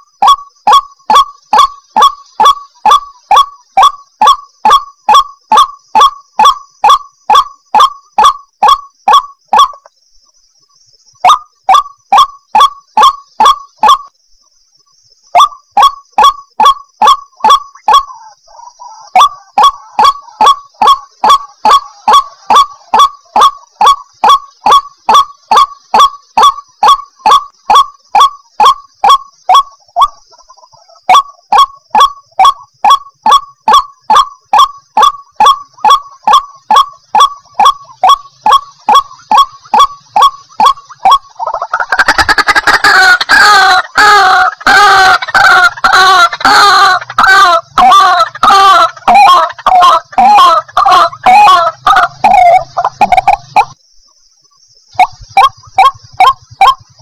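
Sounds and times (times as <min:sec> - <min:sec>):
waterhen repeated call: 0:00.0 - 0:09.9, 0:11.1 - 0:14.2, 0:15.2 - 0:53.8, 0:54.4 - 0:57.0.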